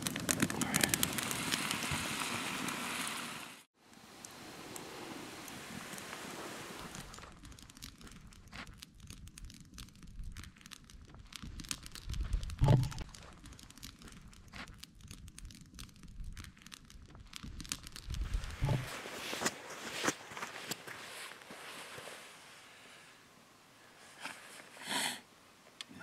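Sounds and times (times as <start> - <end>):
campfire crackling and popping: 0.0 - 21.8.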